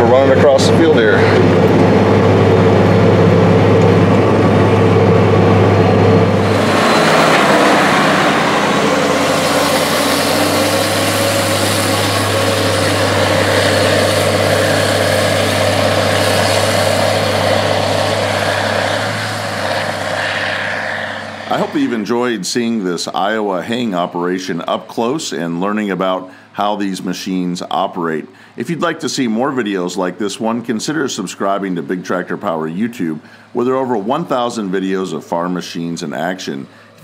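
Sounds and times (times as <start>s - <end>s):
round baler mechanical rush: 0.0s - 37.0s
tractor diesel engine drone: 0.0s - 37.0s.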